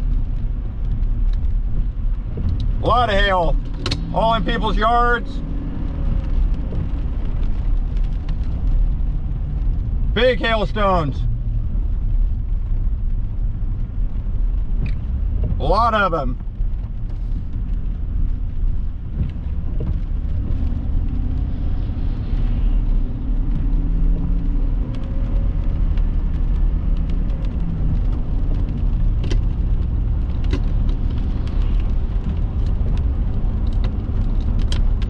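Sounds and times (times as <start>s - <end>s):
car road rumble: 0.0s - 35.0s.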